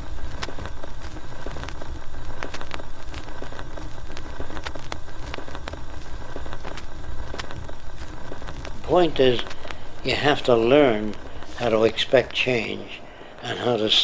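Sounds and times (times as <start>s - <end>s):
low rumble: 0.0s - 11.8s
film pops and clicks: 0.0s - 13.5s
steady hiss: 0.0s - 14.0s.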